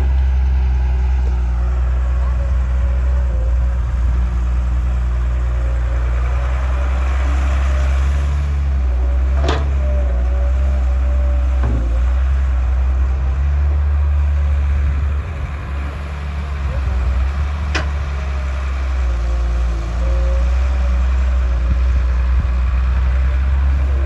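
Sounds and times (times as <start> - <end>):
diesel machinery running: 0.0 - 24.0.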